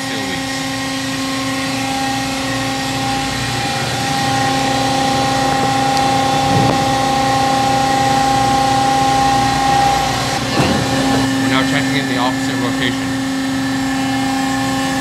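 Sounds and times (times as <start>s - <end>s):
hydraulic pump and motor whine: 0.0s - 15.0s.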